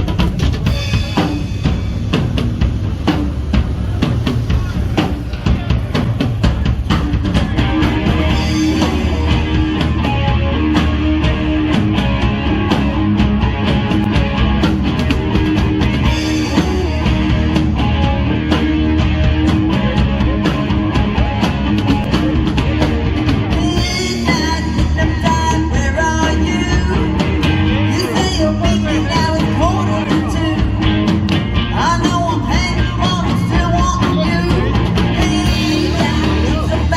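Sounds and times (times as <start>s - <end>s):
drums steady beat: 0.0s - 36.9s
live rock band: 0.0s - 36.9s.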